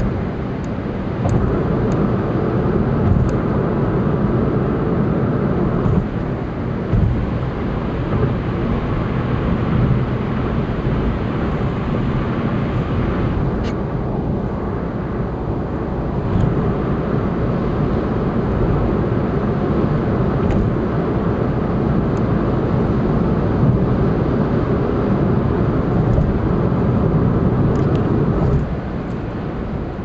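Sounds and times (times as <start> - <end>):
car engine hum: 0.0 - 30.0
road and tyre noise: 0.0 - 30.0.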